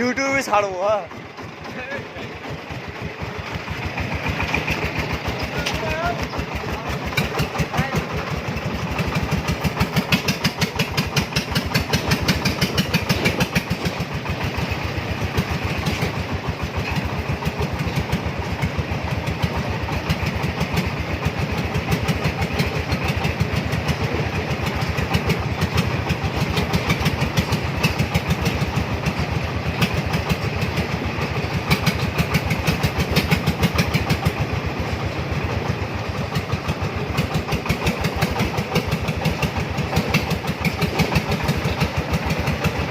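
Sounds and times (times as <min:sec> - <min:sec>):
three-wheeler engine running: 0:00.0 - 0:42.9.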